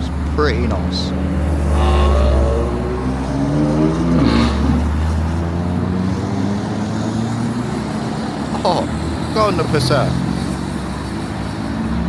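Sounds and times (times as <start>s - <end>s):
car driving past: 0.1s - 12.0s.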